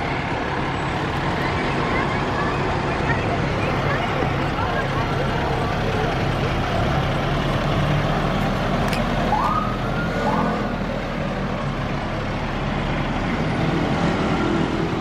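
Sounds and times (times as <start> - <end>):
fire engine diesel engines: 0.0 - 15.0.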